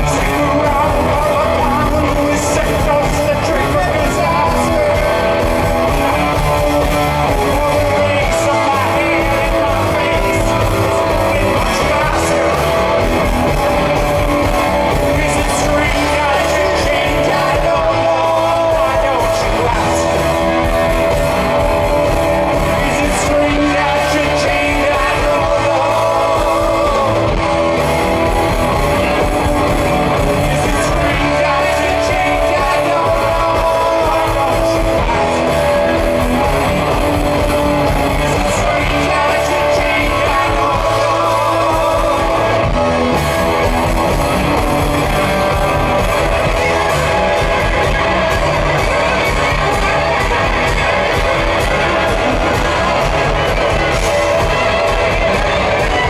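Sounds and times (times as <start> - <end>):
man singing: 0.0 - 56.0
rock band playing: 0.0 - 56.0.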